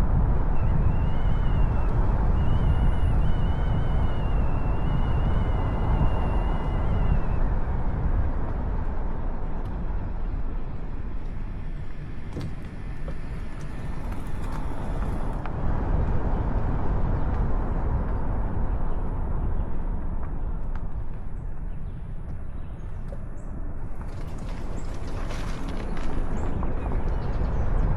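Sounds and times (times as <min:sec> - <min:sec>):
road noise: 0:00.0 - 0:27.9
vehicle engine rumble: 0:00.0 - 0:27.9.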